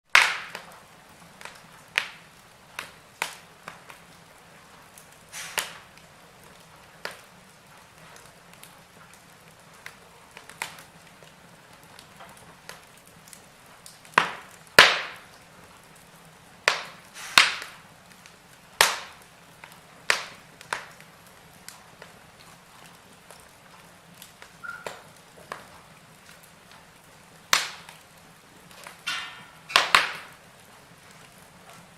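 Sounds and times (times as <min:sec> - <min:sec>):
wood fire crackling and popping: 0:00.0 - 0:31.9
faint steady hiss: 0:00.1 - 0:31.9.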